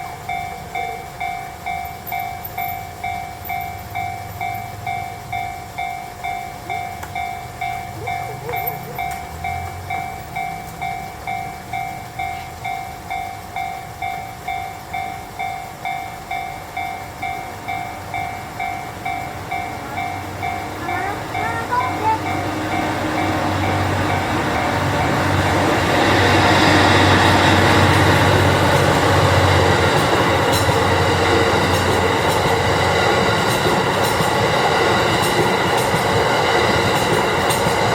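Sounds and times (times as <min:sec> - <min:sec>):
level crossing warning bell: 0:00.0 - 0:37.9.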